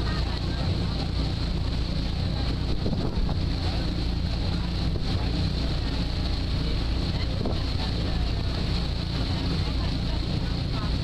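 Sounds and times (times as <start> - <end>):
ferry engine humming: 0.0 - 11.0
rushing water wake: 0.0 - 11.0
wind buffeting microphone: 0.0 - 11.0.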